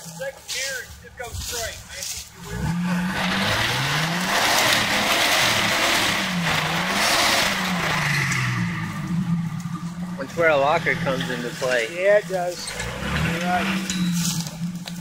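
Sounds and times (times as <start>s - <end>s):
engine revving: 1.9s - 15.0s.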